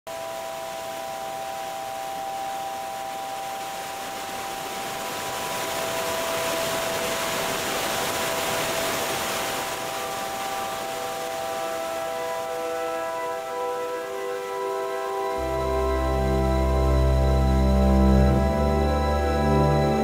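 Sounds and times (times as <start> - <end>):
ambient music with held chord: 0.1 - 20.0
hiss-like wash of noise: 0.1 - 20.0.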